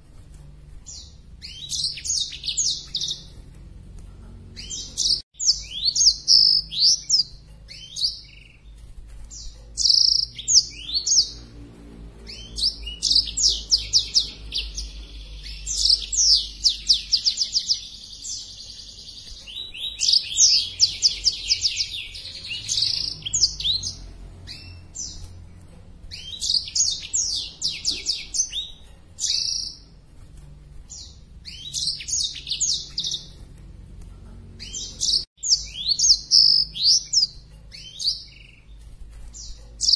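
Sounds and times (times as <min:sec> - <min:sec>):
bird twittering trills: 0:00.8 - 0:39.9.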